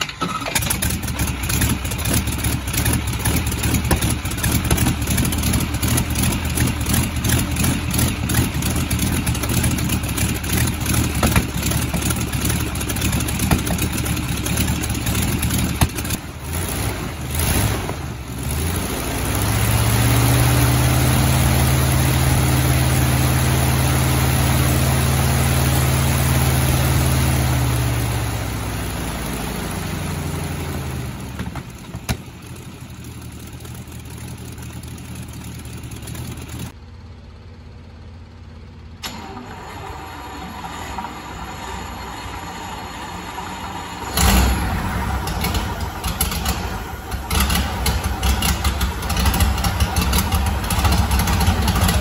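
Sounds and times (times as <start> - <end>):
radial aircraft engine running: 0.0 - 37.2, 39.0 - 52.0.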